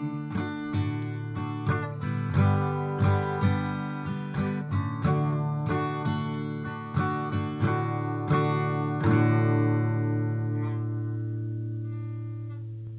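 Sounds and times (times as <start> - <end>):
acoustic guitar strumming chords: 0.0 - 12.9.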